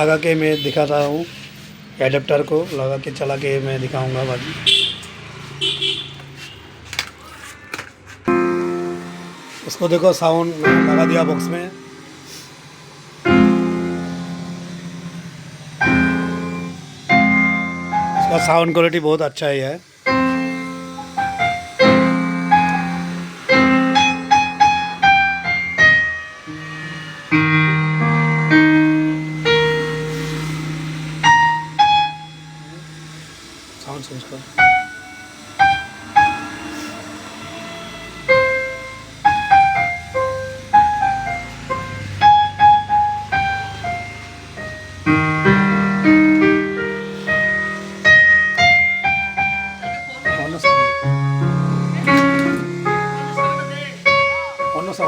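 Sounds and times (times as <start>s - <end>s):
electronic keyboard playing: 8.3s - 19.1s, 19.9s - 55.0s.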